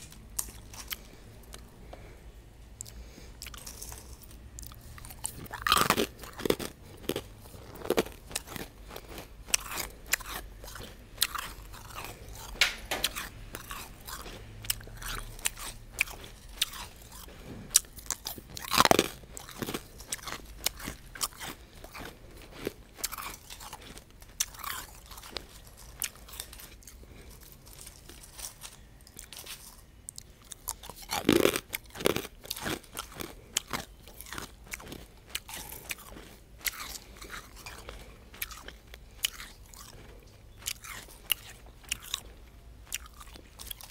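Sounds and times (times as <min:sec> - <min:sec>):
ice being chewed: 0:00.0 - 0:02.2, 0:02.8 - 0:43.9.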